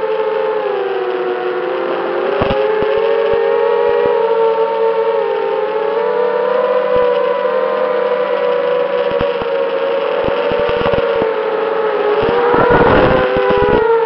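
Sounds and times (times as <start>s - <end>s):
quadcopter propellers whining: 0.8s - 14.0s.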